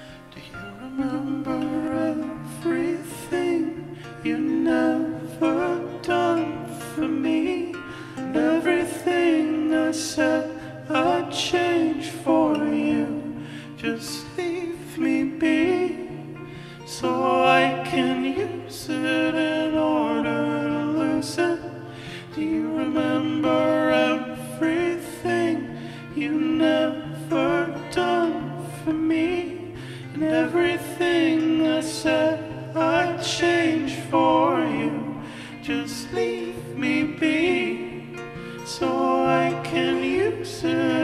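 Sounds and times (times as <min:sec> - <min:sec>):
man singing: 0:00.0 - 0:41.0
strummed acoustic guitar: 0:00.0 - 0:41.0.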